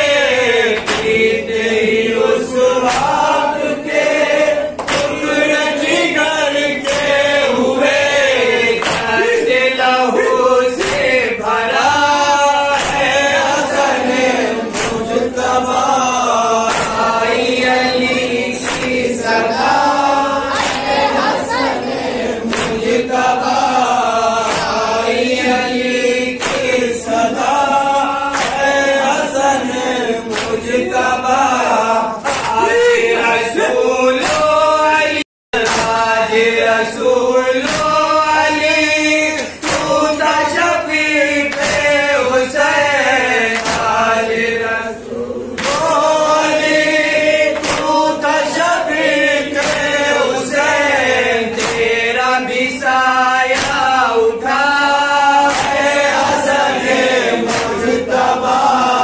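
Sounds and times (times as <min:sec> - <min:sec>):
men chanting into microphones: 0:00.0 - 0:59.0
steady beat of sharp slaps: 0:00.0 - 0:59.0.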